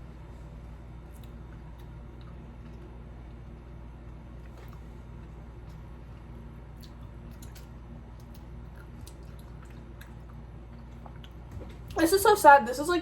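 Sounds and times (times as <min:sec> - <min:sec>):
low room hum: 0:00.0 - 0:13.0
honeycomb being chewed: 0:00.2 - 0:12.0.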